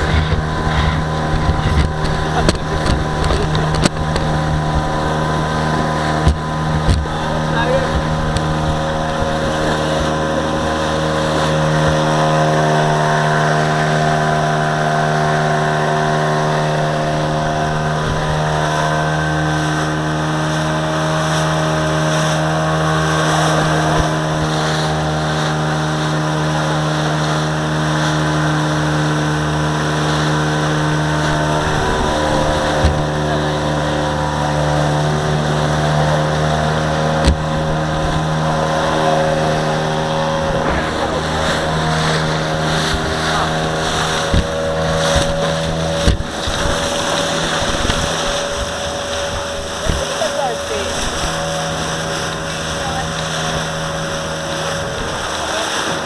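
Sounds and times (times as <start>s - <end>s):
motorboat engine droning: 0.0s - 56.0s
water rushing past hull: 0.0s - 56.0s.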